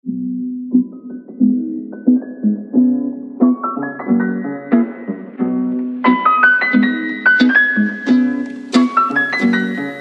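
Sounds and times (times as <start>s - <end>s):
light instrumental music: 0.0s - 10.0s.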